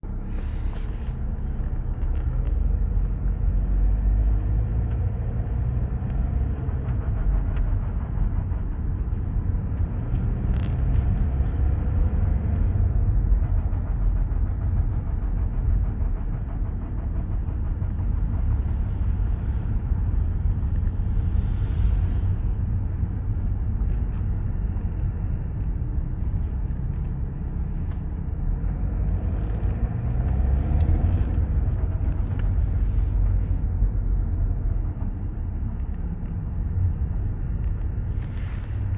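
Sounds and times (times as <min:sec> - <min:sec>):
diesel car engine rumbling: 0:00.0 - 0:38.9.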